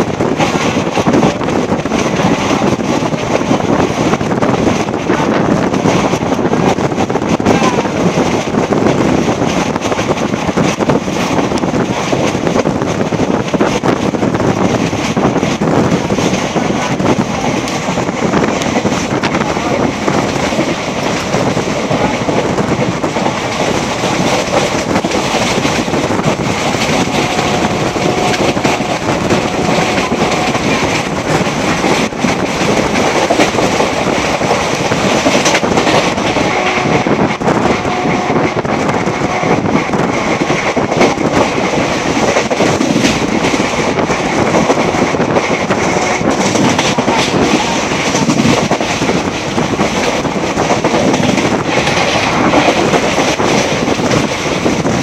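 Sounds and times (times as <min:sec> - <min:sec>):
train wheels rushing on rails: 0:00.0 - 0:55.0
wheels clicking over rail joints: 0:00.0 - 0:55.0.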